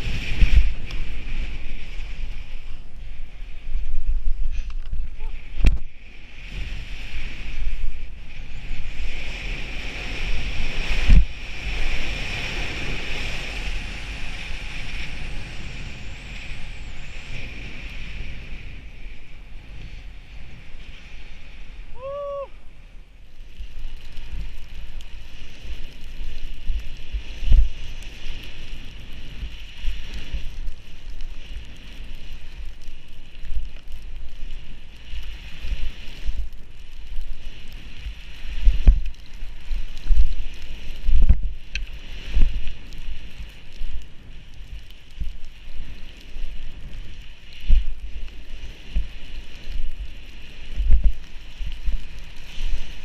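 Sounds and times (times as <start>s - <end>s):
skis hissing through snow: 0.0s - 53.0s
wind buffeting microphone: 0.0s - 53.0s.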